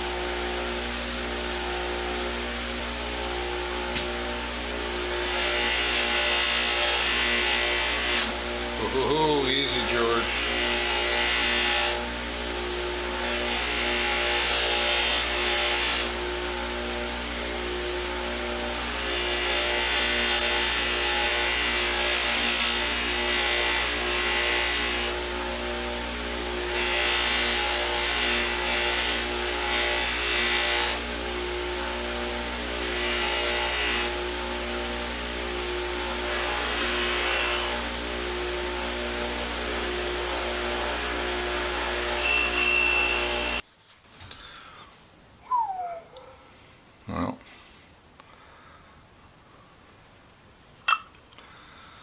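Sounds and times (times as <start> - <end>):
electric polishing tool running: 0.0 - 43.6.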